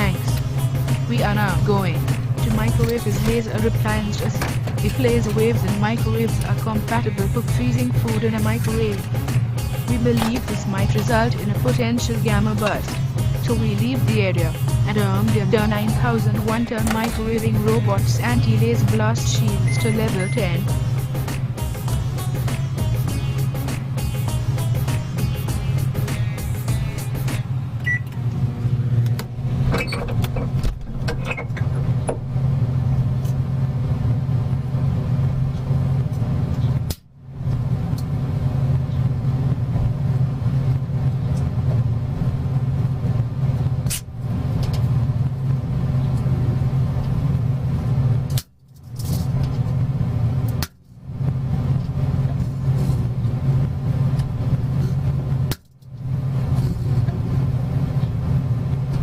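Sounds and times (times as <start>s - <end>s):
microwave oven humming: 0.0s - 59.0s.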